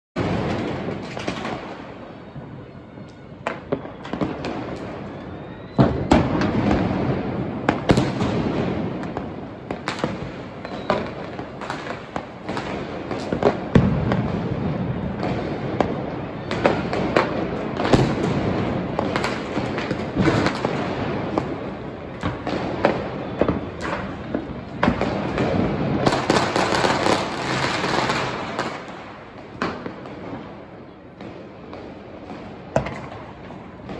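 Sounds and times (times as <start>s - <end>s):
firecracker bangs: 0.2s - 2.6s, 3.3s - 33.9s
fireworks crackling: 0.2s - 33.9s.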